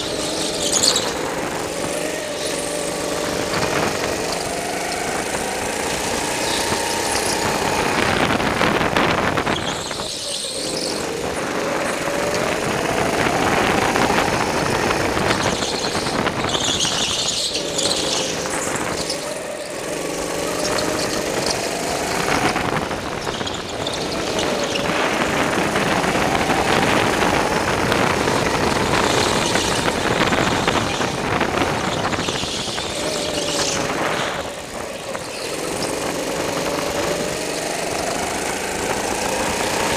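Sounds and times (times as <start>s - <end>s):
go-kart engine revving: 0.0s - 39.9s
tyres squealing: 0.0s - 39.9s.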